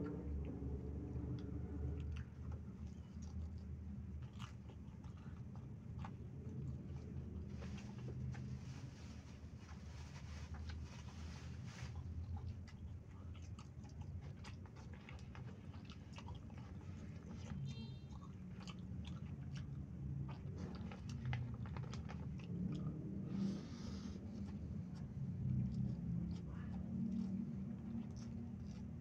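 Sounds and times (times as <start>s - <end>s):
wet chewing clicks and smacks: 0.0s - 8.8s, 9.4s - 29.0s.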